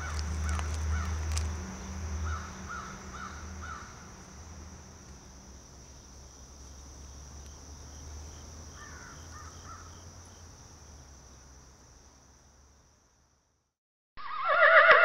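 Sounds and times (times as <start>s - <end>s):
high insect drone: 0.0s - 13.5s.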